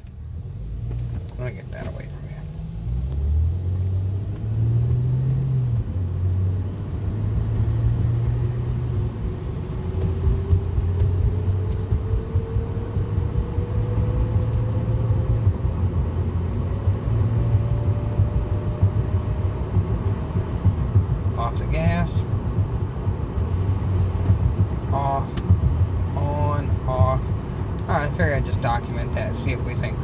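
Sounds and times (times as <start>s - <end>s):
car engine and exhaust rumble: 0.0s - 30.0s.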